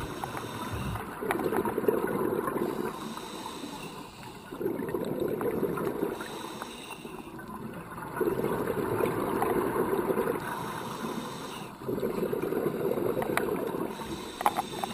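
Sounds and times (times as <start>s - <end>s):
underwater bubbles gurgling: 0.0s - 14.9s.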